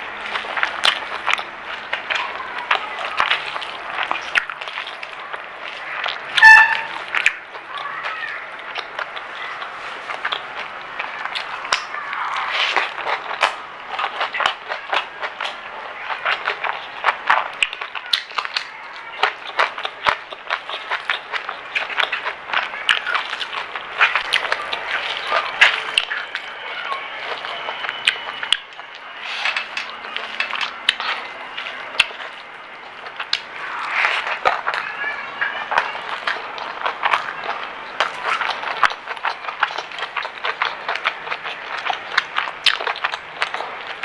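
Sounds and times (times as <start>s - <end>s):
chewing crunchy food: 0.0s - 44.0s.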